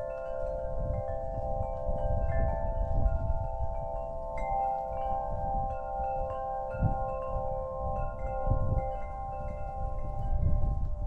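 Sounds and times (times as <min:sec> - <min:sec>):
low wind rumble on microphone: 0:00.0 - 0:11.0
wind chimes ringing: 0:00.0 - 0:11.0.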